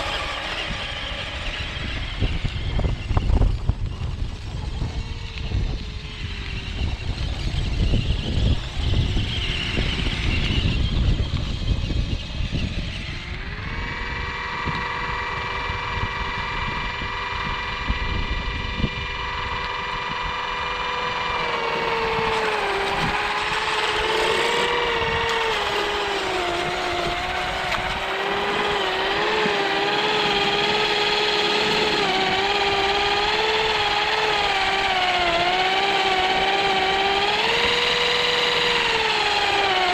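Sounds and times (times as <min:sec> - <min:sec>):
low noisy rumble: 0:00.0 - 0:38.4
electric motor whine: 0:00.0 - 0:39.9.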